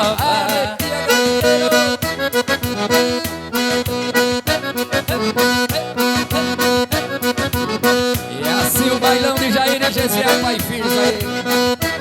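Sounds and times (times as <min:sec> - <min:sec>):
accordion playing: 0:00.0 - 0:12.0
percussive beat: 0:00.0 - 0:12.0.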